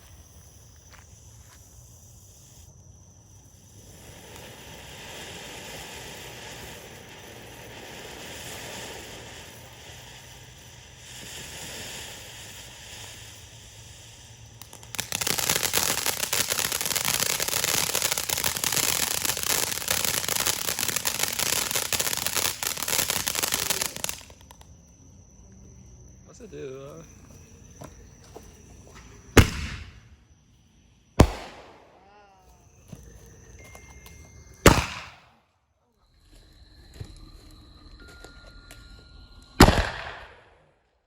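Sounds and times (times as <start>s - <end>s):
firework fountain crackling hiss: 0.0s - 35.3s.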